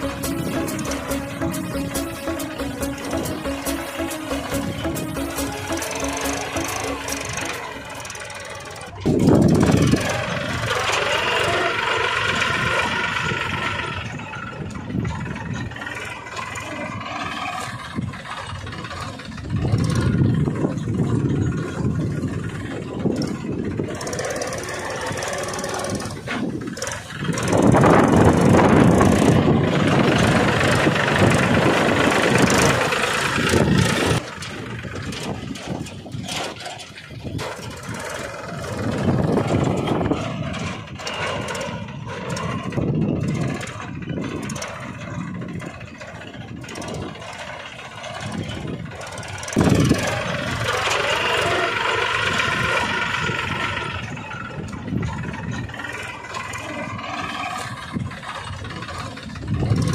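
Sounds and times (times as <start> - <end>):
small tractor engine running unevenly: 0.0 - 59.9.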